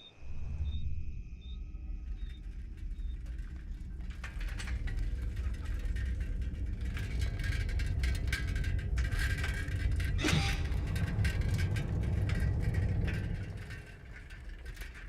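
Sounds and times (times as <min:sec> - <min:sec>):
vehicle engine rumble: 0:00.9 - 0:15.0
light clicking and rattling: 0:02.2 - 0:15.0.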